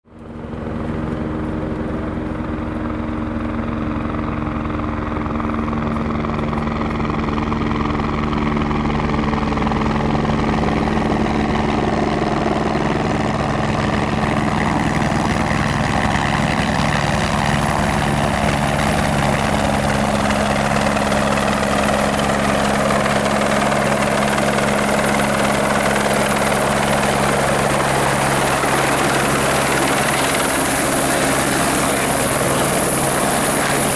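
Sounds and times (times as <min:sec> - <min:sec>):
helicopter rotor and engine: 0:00.0 - 0:33.9.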